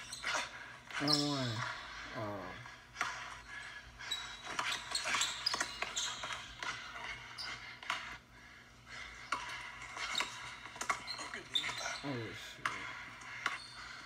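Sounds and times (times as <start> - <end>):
sneaker squeaks: 0.0 - 2.0, 3.3 - 8.3, 9.3 - 14.0.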